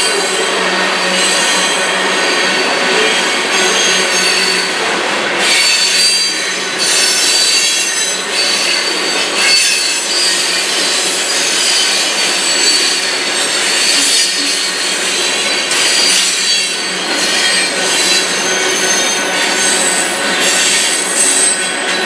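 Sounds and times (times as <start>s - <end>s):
freight train wheels rushing: 0.0s - 22.0s
high-pitched wheel squeal: 0.0s - 22.0s.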